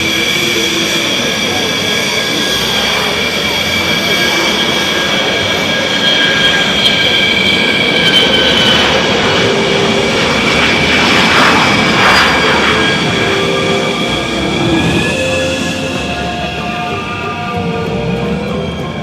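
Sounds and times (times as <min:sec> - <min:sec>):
high turbine whine: 0:00.0 - 0:19.0
jet engines roaring: 0:00.0 - 0:19.0.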